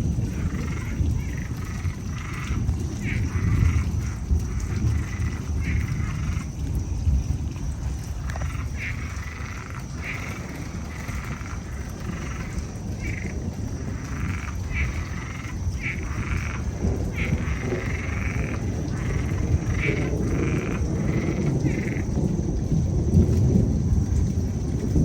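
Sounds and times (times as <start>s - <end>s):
frogs calling: 0.0s - 25.0s
low rumble of thunder: 0.0s - 25.0s
rain: 0.0s - 25.0s.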